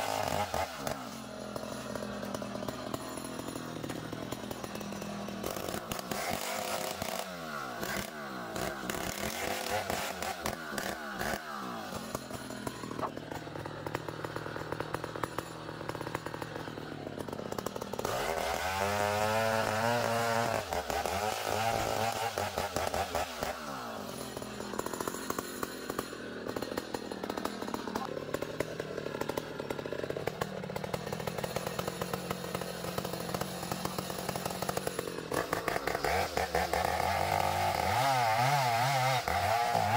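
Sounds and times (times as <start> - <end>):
sawmill blade cutting log: 0.0 - 39.9.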